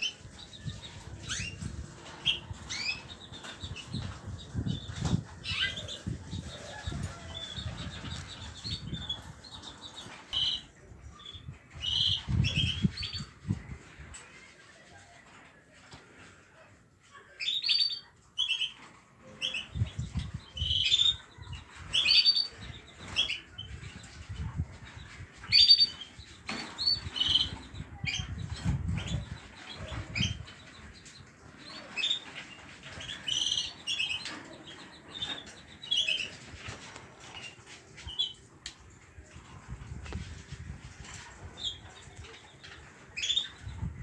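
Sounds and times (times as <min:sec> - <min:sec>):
small birds chirping: 0:00.0 - 0:14.5, 0:17.3 - 0:44.0.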